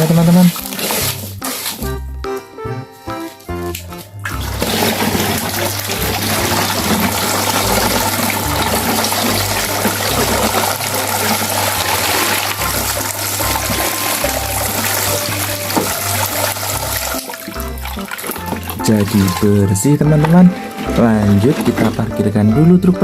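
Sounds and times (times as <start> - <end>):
water running and splashing: 0.0 - 1.9, 3.8 - 22.1.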